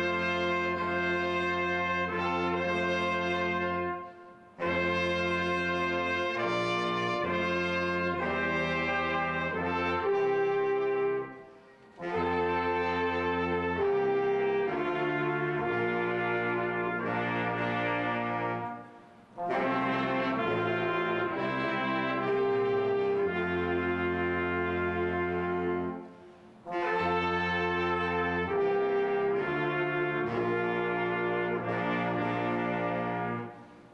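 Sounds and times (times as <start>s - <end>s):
saxophones: 0.0s - 33.9s
trombone: 0.0s - 33.9s
trumpet: 0.0s - 33.9s.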